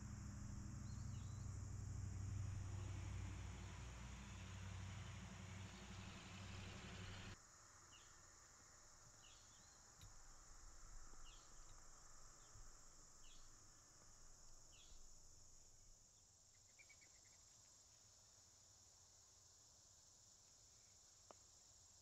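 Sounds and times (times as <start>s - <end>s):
insect chirps: 0.0s - 22.0s
insect drone: 0.0s - 22.0s.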